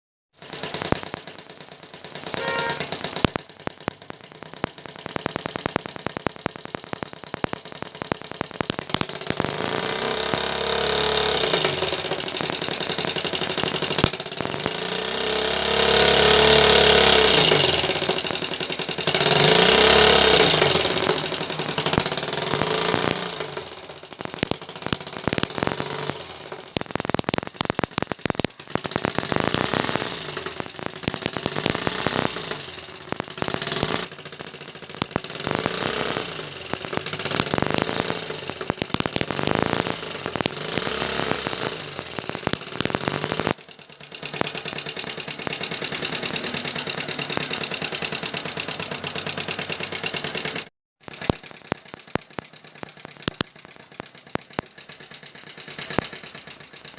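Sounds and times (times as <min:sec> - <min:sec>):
engine ticking: 0:00.4 - 0:56.9
motorcycle engine revving: 0:00.4 - 0:56.9.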